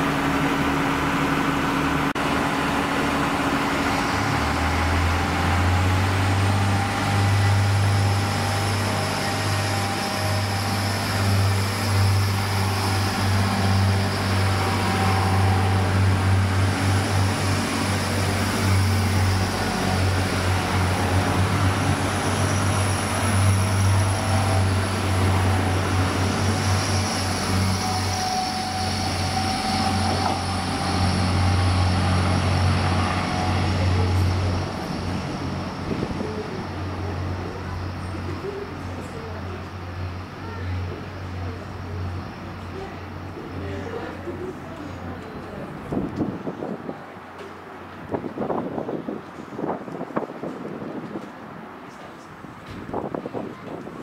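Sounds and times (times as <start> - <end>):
low train drone: 0.0 - 54.0
train wheels rumbling on rails: 0.0 - 54.0.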